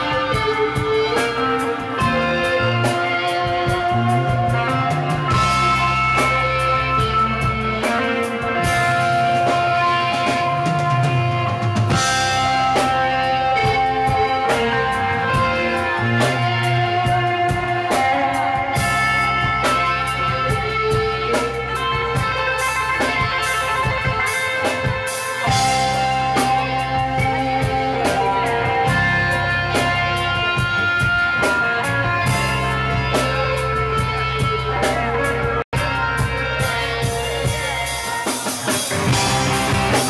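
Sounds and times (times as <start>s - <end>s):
bass guitar: 0.0s - 40.0s
drum kit and cymbal hits: 0.0s - 40.0s
electric guitar: 0.0s - 40.0s.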